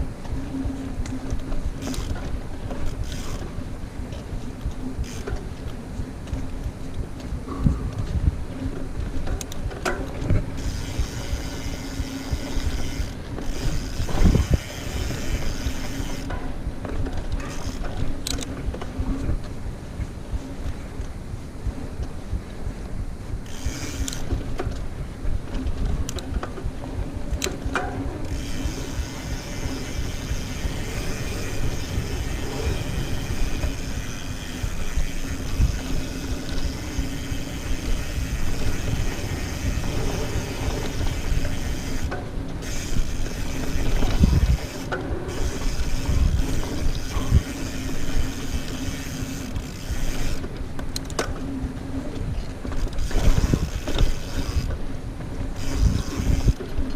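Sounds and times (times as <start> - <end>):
mountain bike rattling: 0.0 - 56.9.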